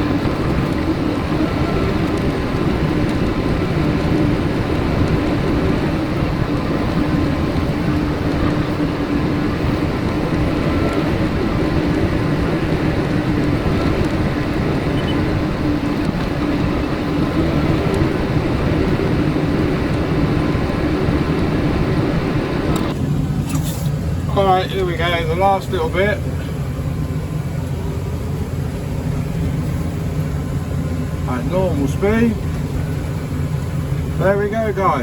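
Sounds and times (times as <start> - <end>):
square baler running: 0.0 - 35.0
tractor engine running: 0.0 - 35.0.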